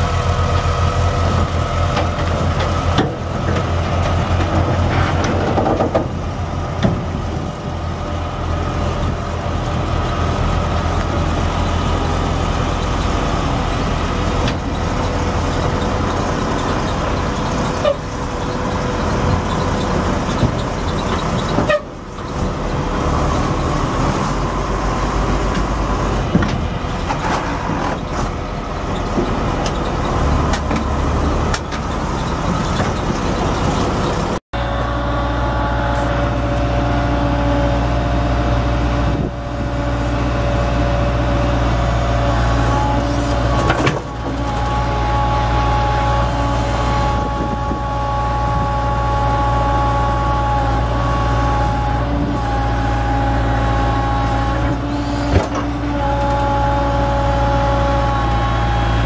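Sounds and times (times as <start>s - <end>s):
diesel engine drone: 0.0s - 59.0s
high machinery whine: 6.5s - 59.0s.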